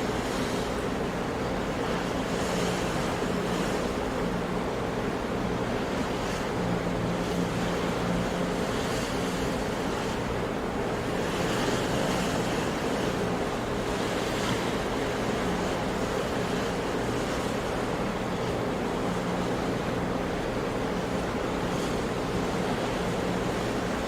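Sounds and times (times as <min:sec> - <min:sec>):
sea waves washing onto shore: 0:00.0 - 0:24.0.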